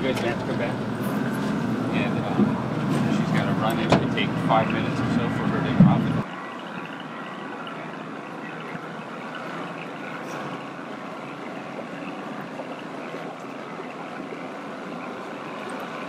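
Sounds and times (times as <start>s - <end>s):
motorboat engine droning: 0.0s - 16.0s
water noise: 0.0s - 16.0s.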